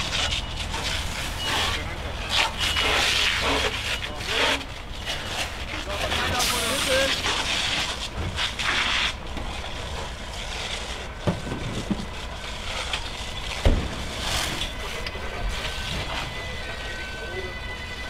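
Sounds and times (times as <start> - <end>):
fire engine idling: 0.0 - 18.0.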